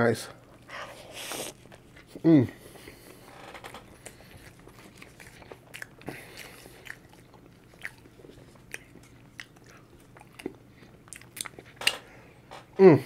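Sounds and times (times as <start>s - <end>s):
person chewing food: 0.4s - 12.4s.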